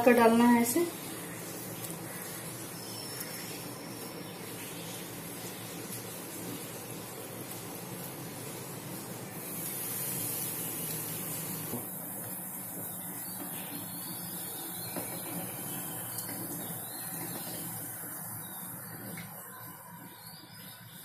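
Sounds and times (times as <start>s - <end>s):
gravy boiling: 0.0s - 21.0s.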